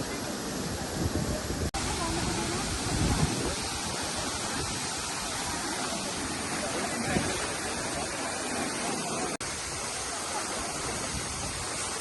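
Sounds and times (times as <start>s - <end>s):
faint voices: 0.0s - 12.0s
waterfall rushing: 0.0s - 12.0s.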